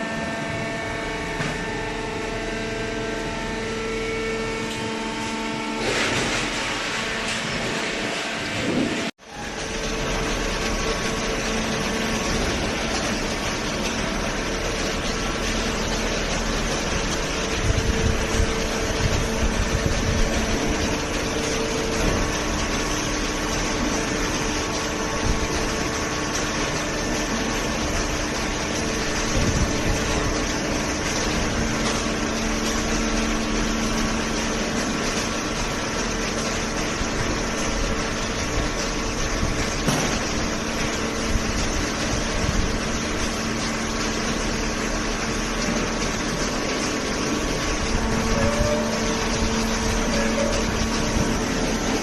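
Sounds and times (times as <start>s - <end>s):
hydraulic power unit humming: 0.0s - 52.0s.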